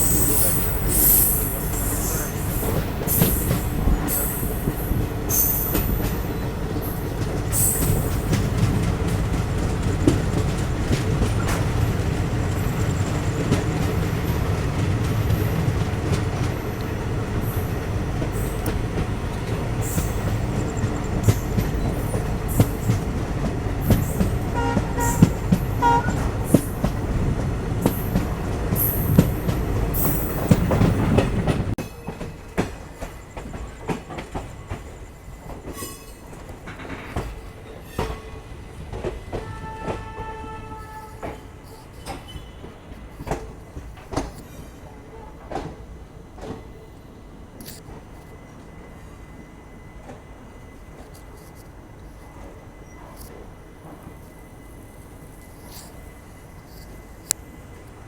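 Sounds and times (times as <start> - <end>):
rail clicks: 0.0 - 58.0
train rumbling on track: 0.0 - 58.0.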